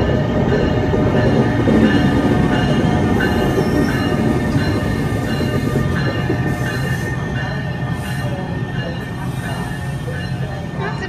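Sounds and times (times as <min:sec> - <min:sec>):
electric train rumbling past: 0:00.0 - 0:11.0.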